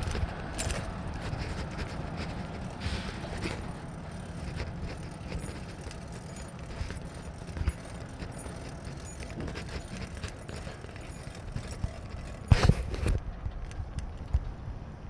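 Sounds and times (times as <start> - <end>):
footsteps on pavement: 0.0 - 14.6.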